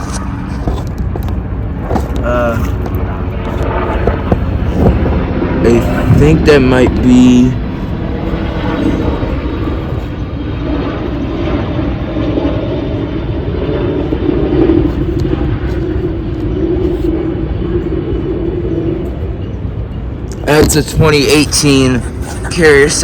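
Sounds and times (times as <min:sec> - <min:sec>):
loud low rumble: 0:00.0 - 0:23.0
wavering hum: 0:00.0 - 0:23.0.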